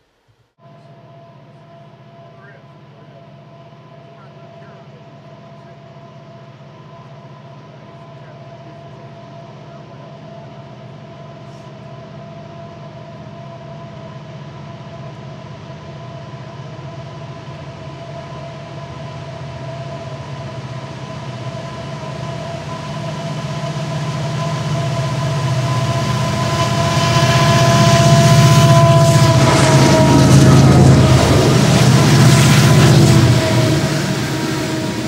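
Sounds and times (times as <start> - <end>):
diesel locomotive rumble: 1.3 - 35.0.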